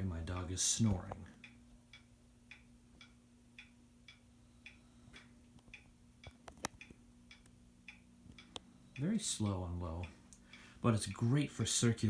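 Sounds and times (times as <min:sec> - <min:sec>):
ceiling fan motor hum: 0:00.0 - 0:12.0
fan ticking: 0:00.0 - 0:12.0.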